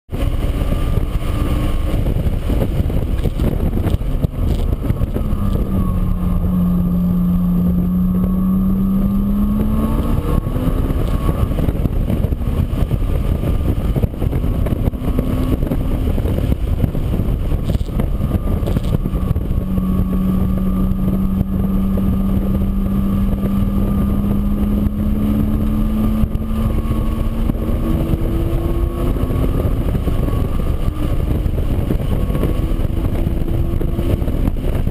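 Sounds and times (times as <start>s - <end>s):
heavy low rumble: 0.1s - 34.9s.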